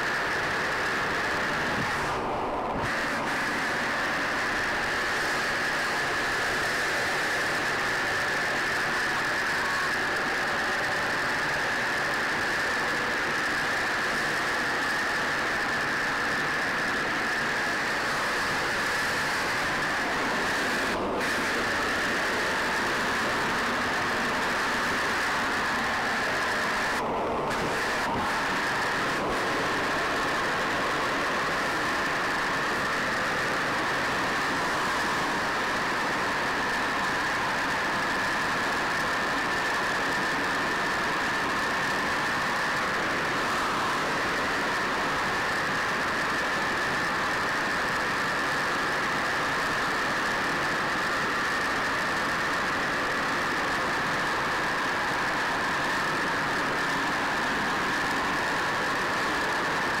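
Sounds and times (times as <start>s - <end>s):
aircraft engines droning: 0.0s - 60.0s.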